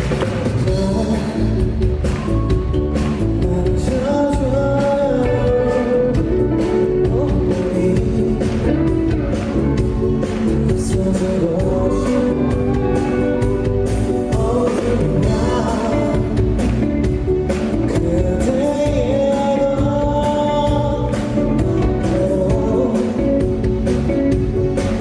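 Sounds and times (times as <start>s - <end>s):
live pop-rock band: 0.0s - 25.0s
man singing: 0.5s - 24.4s.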